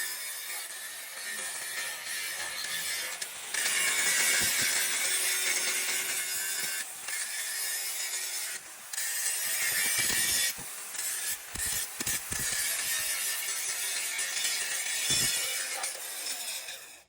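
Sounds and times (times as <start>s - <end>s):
hand tool rasping on workpiece: 0.0s - 17.0s.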